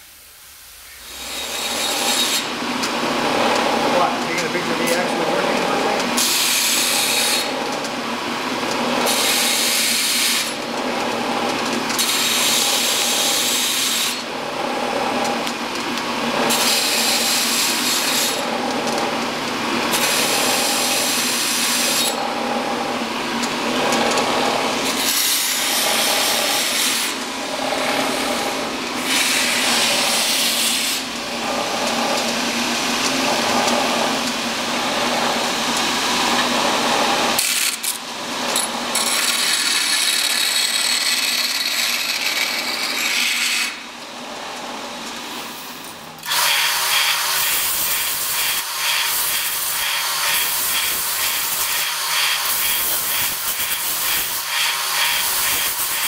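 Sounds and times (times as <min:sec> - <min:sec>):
metal grinding on sander belt: 0:01.1 - 0:07.9, 0:08.6 - 0:15.5, 0:16.2 - 0:43.8, 0:46.2 - 0:56.0
belt sander running: 0:01.1 - 0:56.0.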